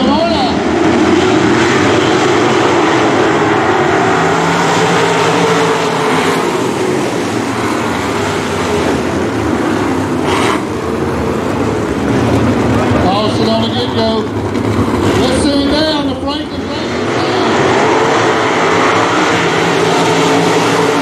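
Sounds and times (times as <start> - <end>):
racing car engines: 0.0 - 21.0.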